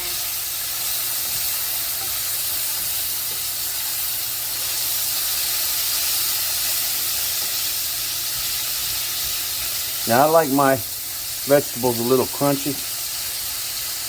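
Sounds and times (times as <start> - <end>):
meat and vegetables sizzling in pan: 0.0 - 14.0.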